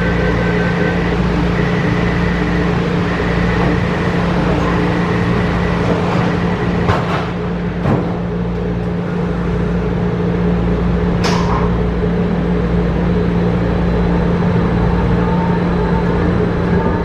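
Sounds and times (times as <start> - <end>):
low hum: 0.0 - 17.0
train rumbling: 0.0 - 17.0.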